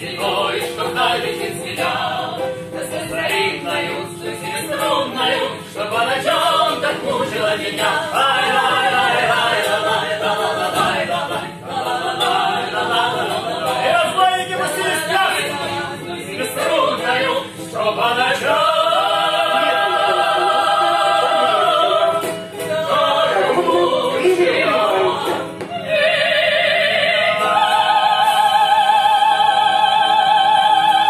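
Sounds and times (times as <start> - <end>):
voices singing operatically: 0.0 - 31.0.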